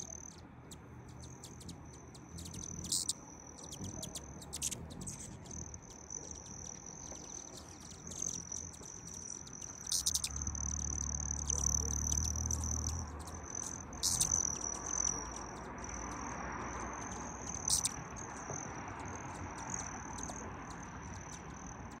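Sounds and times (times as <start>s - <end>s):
hummingbird trill: 0.0s - 22.0s
sharp bird chips: 0.0s - 22.0s.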